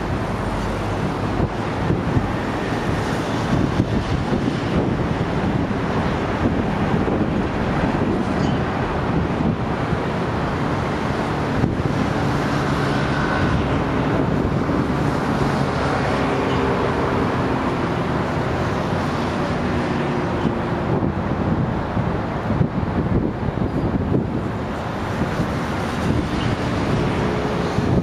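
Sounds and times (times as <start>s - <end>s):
engine hum: 0.0s - 28.0s
road traffic: 0.0s - 28.0s
wind buffeting microphone: 0.0s - 28.0s.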